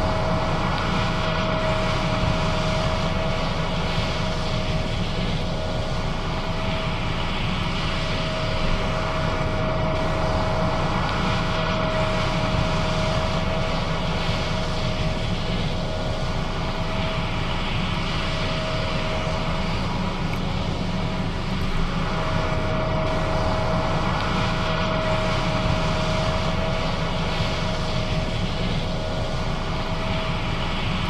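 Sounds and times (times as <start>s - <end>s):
combine harvester engine drone: 0.0s - 31.0s
machinery whine: 0.0s - 31.0s.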